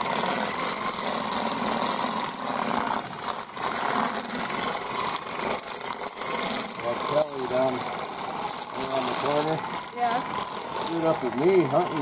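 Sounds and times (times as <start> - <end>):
chicken plucker motor running: 0.0 - 12.0.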